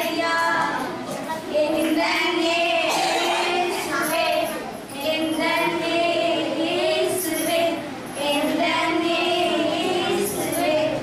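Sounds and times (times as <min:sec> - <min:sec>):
girls singing: 0:00.0 - 0:11.0.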